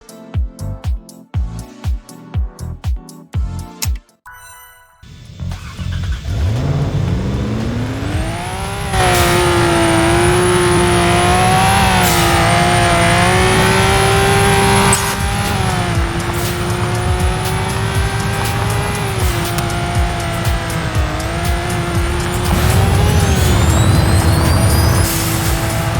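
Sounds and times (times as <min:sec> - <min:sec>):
car engine revving: 0:05.1 - 0:25.9.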